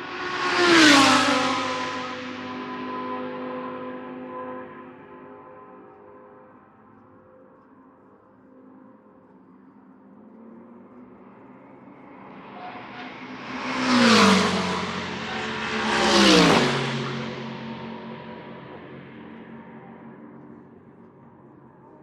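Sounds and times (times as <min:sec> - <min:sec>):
race cars passing by: 0:00.0 - 0:22.0.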